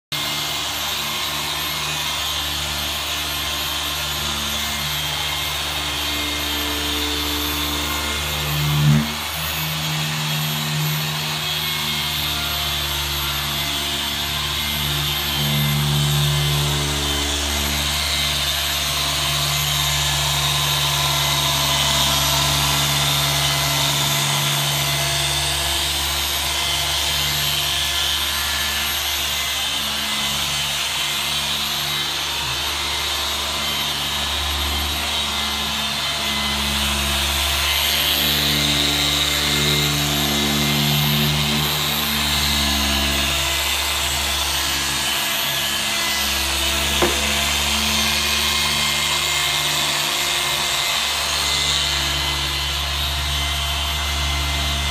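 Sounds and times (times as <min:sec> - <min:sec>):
polisher motor humming: 0:00.2 - 0:54.9.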